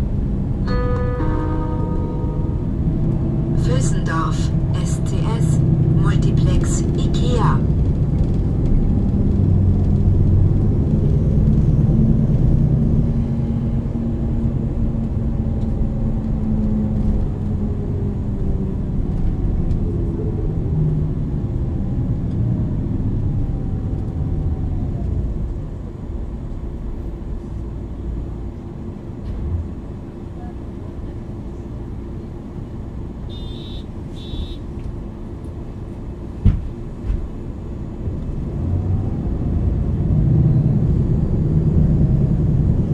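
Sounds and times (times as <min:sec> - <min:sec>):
bus engine and gearbox under load: 0:00.0 - 0:42.9.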